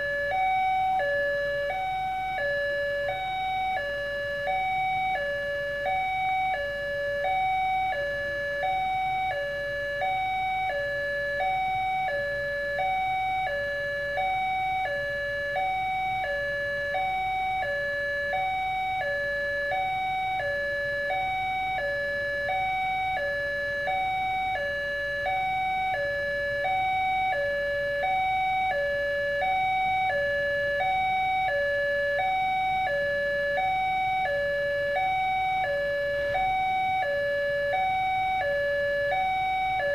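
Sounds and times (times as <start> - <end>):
two-tone level-crossing alarm: 0.0 - 39.9.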